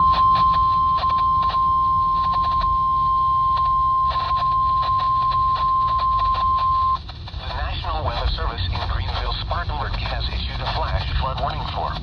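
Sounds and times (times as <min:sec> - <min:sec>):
low hum: 0:00.0 - 0:12.0
static crackles: 0:00.0 - 0:12.0.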